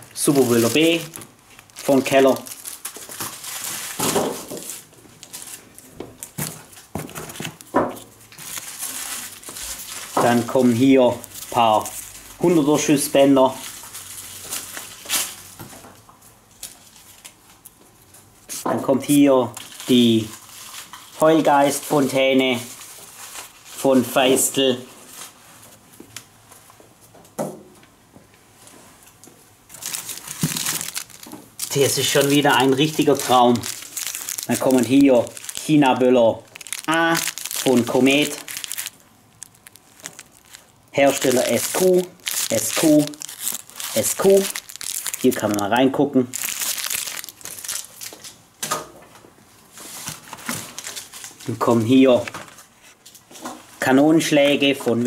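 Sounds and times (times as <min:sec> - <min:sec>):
packaging rustling and crinkling: 0:00.0 - 0:15.9, 0:18.5 - 0:25.8, 0:29.7 - 0:48.4, 0:49.7 - 0:53.8.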